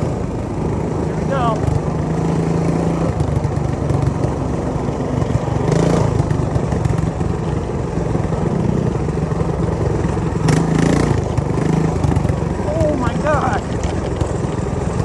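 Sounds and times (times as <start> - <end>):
minibike engine running: 0.0 - 15.0.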